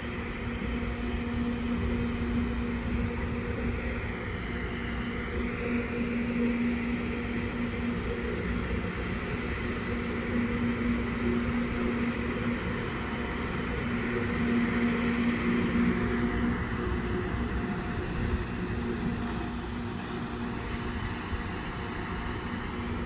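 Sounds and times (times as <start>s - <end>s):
rail grinder diesel engines: 0.0s - 23.0s.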